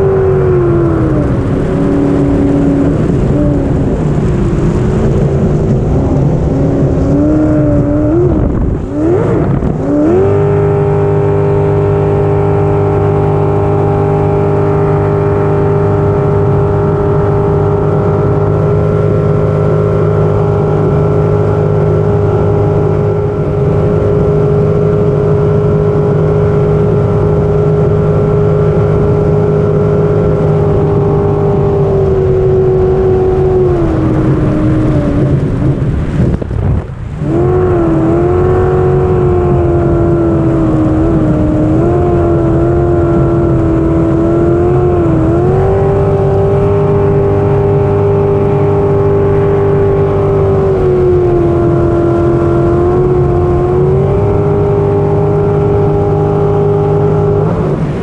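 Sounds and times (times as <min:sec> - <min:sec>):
jet boat engine running hard: 0:00.0 - 0:58.0.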